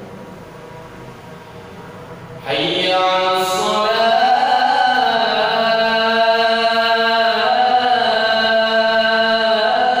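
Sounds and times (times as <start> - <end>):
room noise hiss: 0.0 - 10.0.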